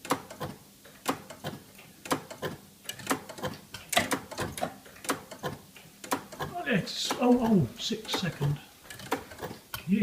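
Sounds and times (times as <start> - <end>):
relays and clock movements clicking: 0.0 - 9.9.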